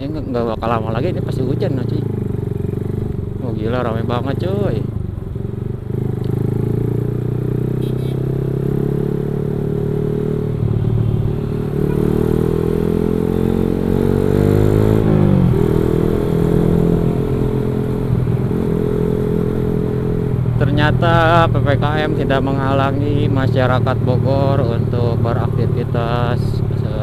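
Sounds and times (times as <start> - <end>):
motorcycle engine running: 0.1 - 27.0.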